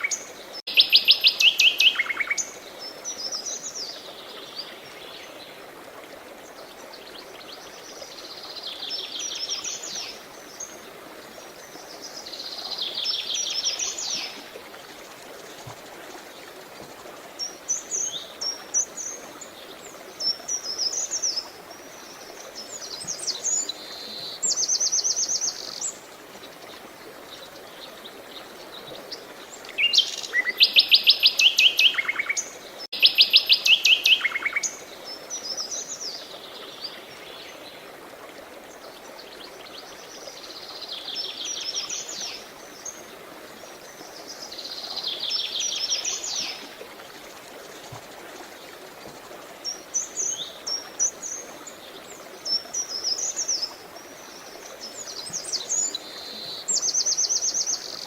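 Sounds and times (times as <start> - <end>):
flowing water hiss: 0.0 - 58.0.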